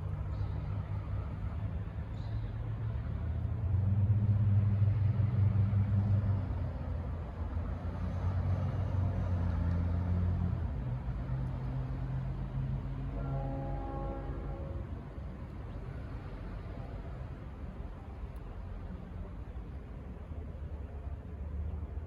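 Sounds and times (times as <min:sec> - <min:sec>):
locomotive engine drone: 0:00.0 - 0:22.0.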